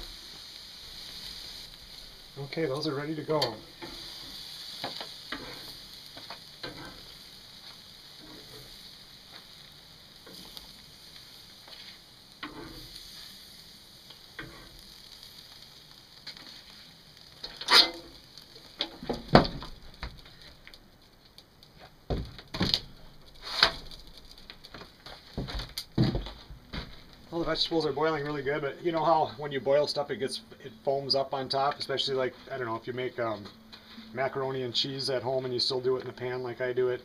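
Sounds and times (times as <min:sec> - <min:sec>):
meat sizzling on a grill: 0:00.0 - 0:26.1, 0:27.2 - 0:37.0.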